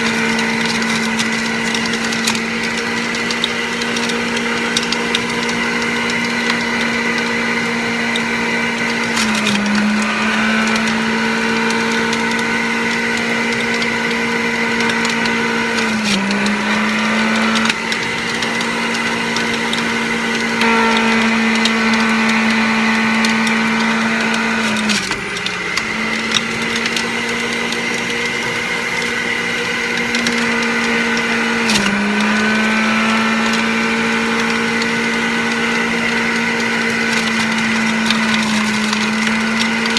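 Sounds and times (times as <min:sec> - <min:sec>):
juicer crunching greens: 0:00.0 - 0:39.9
juicer motor whine: 0:00.0 - 0:39.9.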